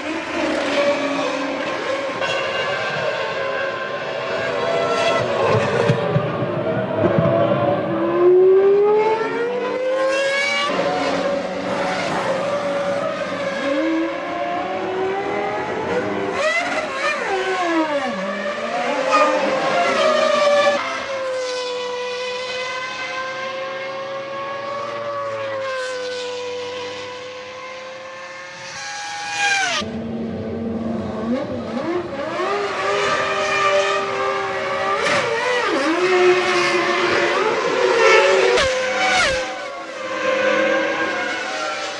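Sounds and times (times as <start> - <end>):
racing car engines at high revs: 0.0 - 41.9.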